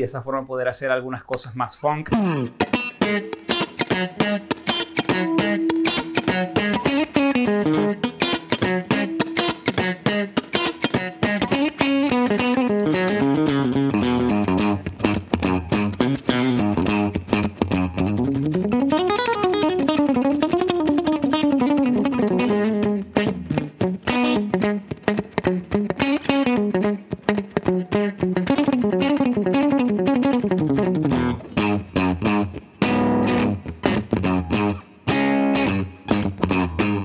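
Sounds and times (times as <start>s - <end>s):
clean electric guitar playing: 2.0s - 37.0s.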